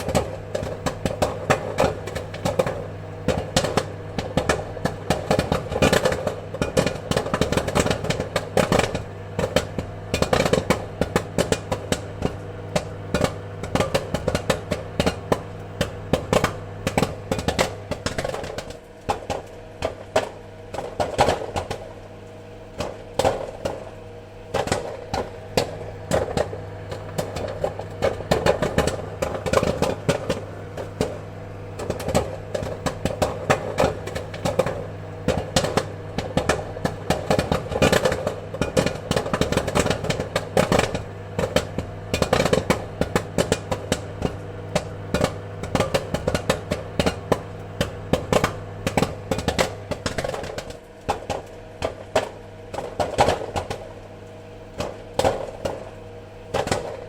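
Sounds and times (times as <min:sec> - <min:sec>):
popcorn popping: 0:00.0 - 0:57.0
steady low hum: 0:00.0 - 0:57.0.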